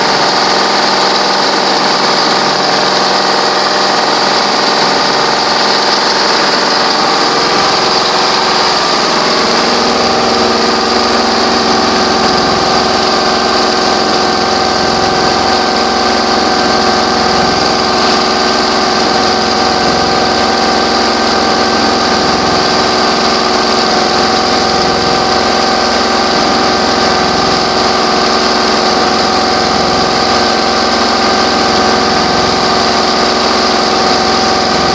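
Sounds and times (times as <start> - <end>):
quilting machine humming: 0.0 - 34.9.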